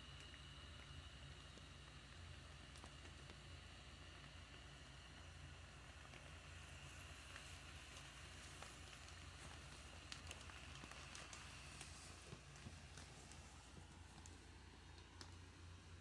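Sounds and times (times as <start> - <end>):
blower fan hum: 0.0 - 16.0.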